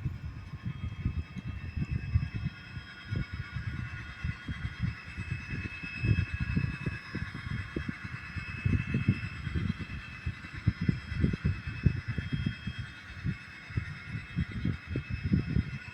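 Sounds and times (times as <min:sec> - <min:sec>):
faint high whine: 0:00.0 - 0:15.9.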